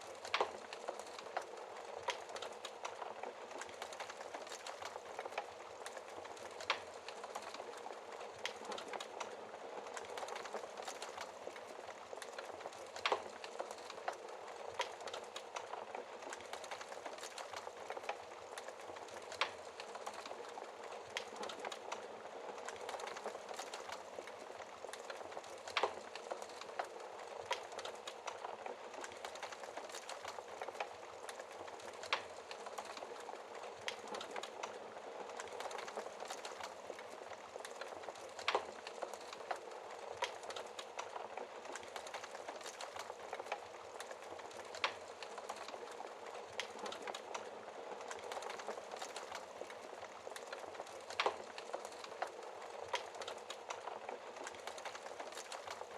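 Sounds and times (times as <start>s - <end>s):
fire popping: 0.0s - 55.9s
wood fire crackling: 0.0s - 55.9s.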